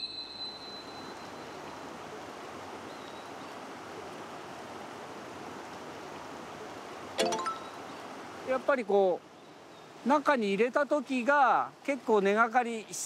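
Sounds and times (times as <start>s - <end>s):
river flowing over rocks: 0.1s - 13.0s.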